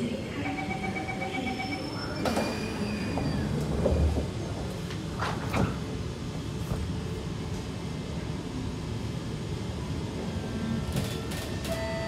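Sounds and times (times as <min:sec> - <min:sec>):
train carriage rumble: 0:02.2 - 0:12.0.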